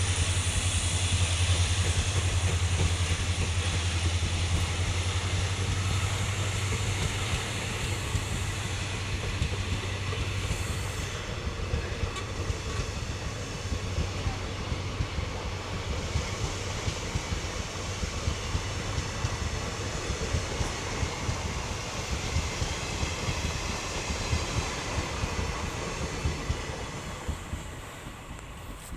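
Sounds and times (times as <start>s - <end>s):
diesel locomotive engine hum: 0.0s - 28.9s
train wheels rolling rumble: 0.0s - 28.9s.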